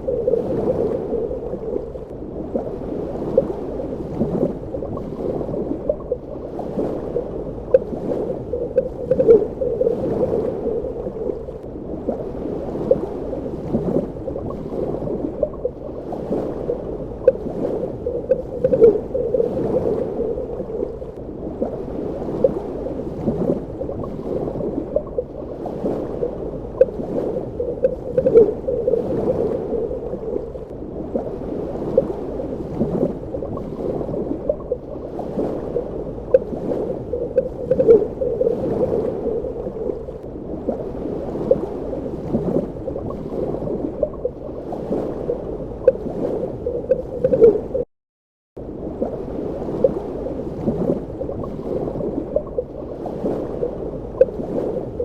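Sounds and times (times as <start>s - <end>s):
gurgles and bubble pops: 0.0s - 47.9s, 49.8s - 55.0s
underwater rumble: 0.0s - 47.9s, 48.6s - 55.0s.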